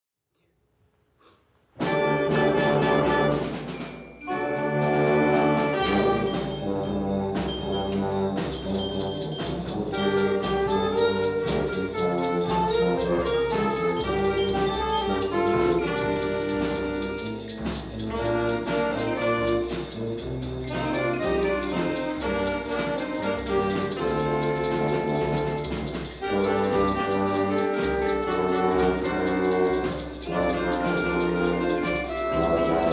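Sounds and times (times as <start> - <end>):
saxophones: 1.8 - 32.9
school band playing jazz: 1.8 - 32.9
steady drum beat: 1.8 - 32.9.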